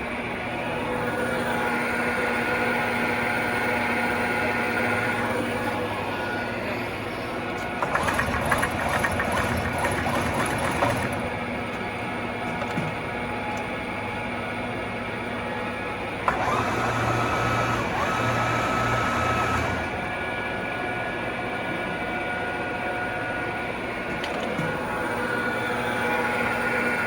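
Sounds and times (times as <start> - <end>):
lathe gearing whirring: 0.3 - 27.0.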